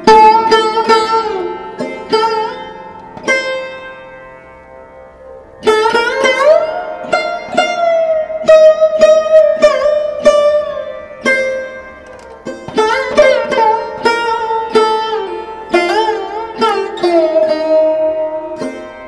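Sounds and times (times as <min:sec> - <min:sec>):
plucked string instrument melody: 0:00.0 - 0:19.0.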